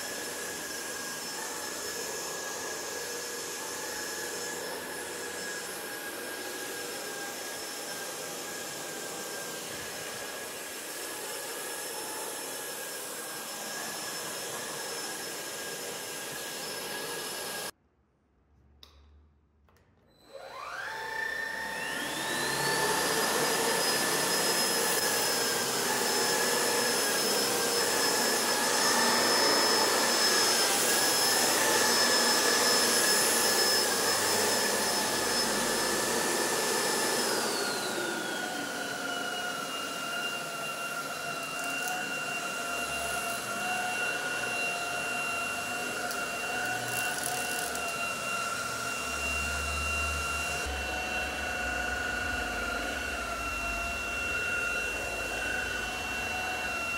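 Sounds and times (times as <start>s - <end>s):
stick vacuum motor whine: 0.0s - 17.7s, 20.2s - 56.9s.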